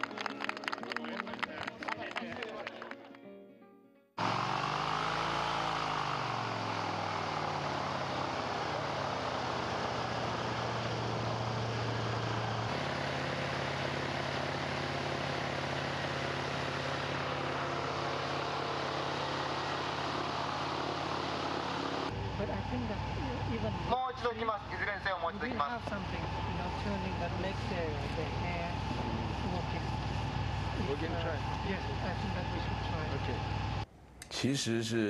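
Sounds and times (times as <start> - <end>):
propeller wind machine droning: 4.2 - 33.9.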